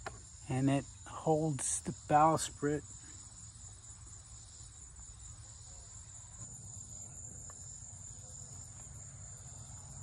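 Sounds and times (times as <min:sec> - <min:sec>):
chorus of field insects: 0:00.0 - 0:10.0.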